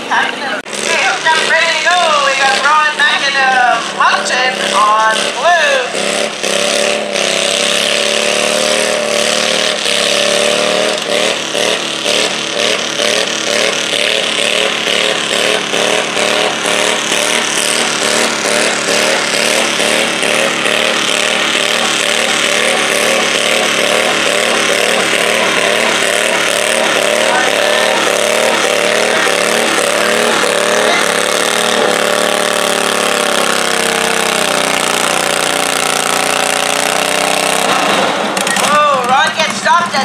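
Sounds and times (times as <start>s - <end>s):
sled scraping dirt: 0.0s - 40.0s
small tractor engine under load: 0.0s - 40.0s.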